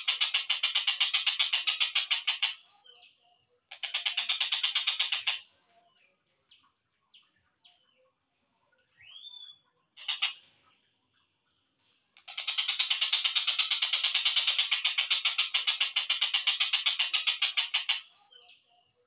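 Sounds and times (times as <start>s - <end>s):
bird chirps: 0.0s - 11.3s, 12.2s - 19.0s.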